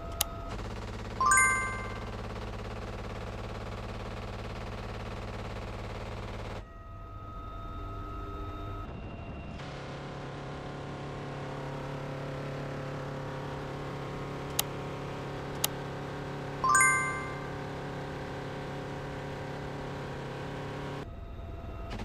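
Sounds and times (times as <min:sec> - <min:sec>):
helicopter rotor and turbine drone: 0:00.0 - 0:22.0.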